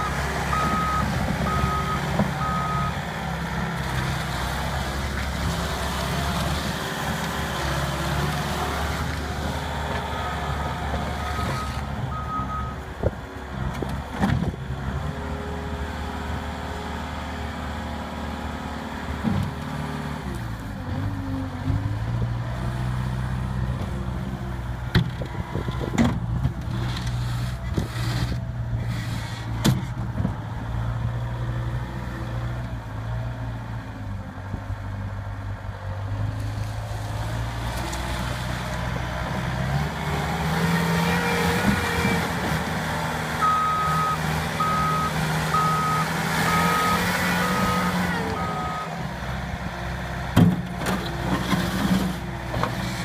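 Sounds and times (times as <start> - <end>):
diesel engine running and revving: 0.0 - 53.0.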